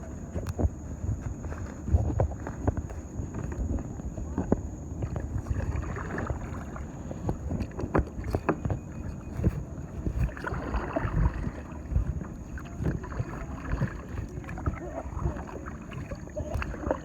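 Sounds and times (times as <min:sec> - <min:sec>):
water splashing around kayak: 0:00.0 - 0:17.0
wind rumbling on microphone: 0:00.0 - 0:17.0.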